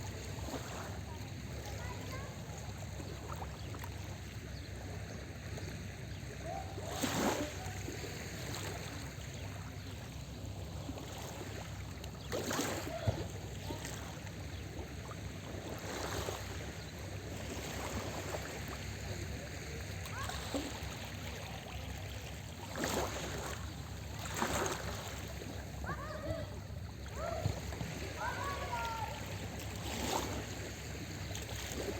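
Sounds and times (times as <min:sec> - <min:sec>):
waves washing onto beach: 0:05.3 - 0:31.9.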